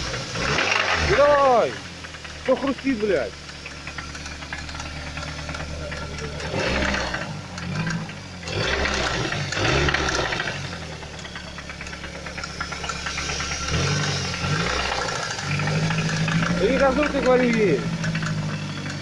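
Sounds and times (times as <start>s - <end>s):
car engine revving: 0.0s - 19.0s
engine knocking and crunching: 0.0s - 19.0s.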